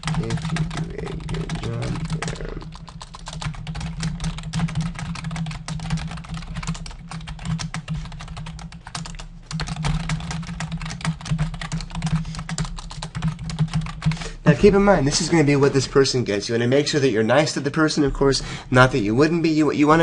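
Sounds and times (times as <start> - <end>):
rapid typing on keyboard: 0.0 - 16.2.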